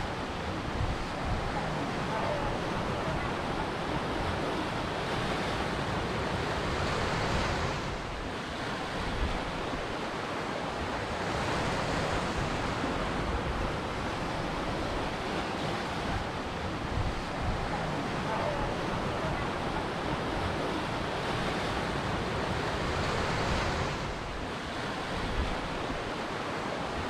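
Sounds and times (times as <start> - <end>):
ocean surf breaking on shore: 0.0 - 27.0.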